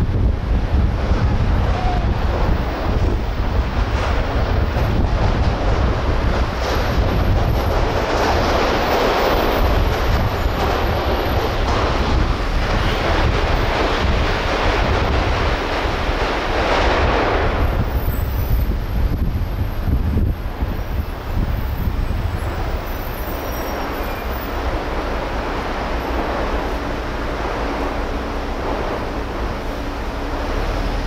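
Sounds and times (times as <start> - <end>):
road rumble: 0.0 - 31.0
wind buffeting microphone: 0.0 - 31.0.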